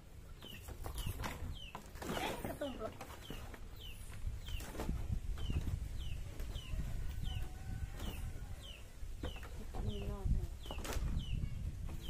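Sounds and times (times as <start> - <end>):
small bird chirping: 0.3 - 12.0.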